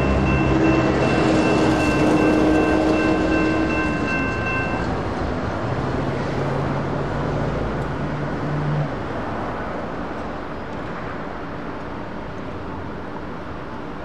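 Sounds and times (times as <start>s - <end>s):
road and rail traffic: 0.0s - 14.0s.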